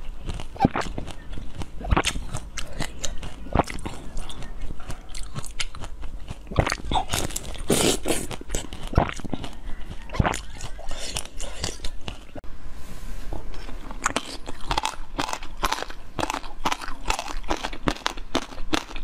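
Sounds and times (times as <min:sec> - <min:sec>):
person chewing orange: 0:00.0 - 0:12.4, 0:13.6 - 0:19.0.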